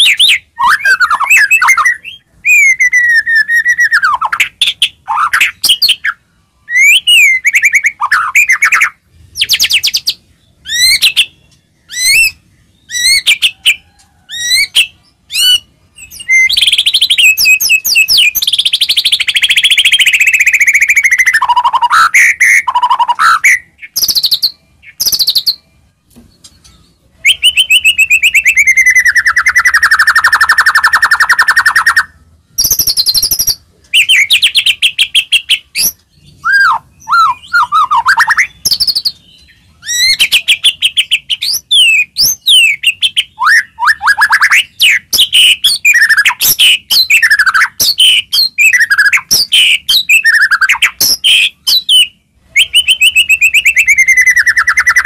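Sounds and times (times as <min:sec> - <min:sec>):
songbird whistling and trilling: 0:00.0 - 0:55.0.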